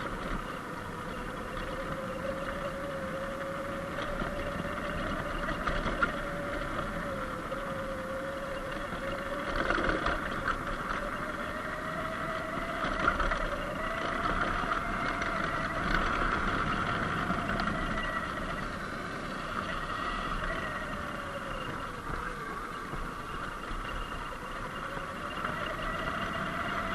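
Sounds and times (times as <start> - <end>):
electric motor whining: 0.0 - 26.9.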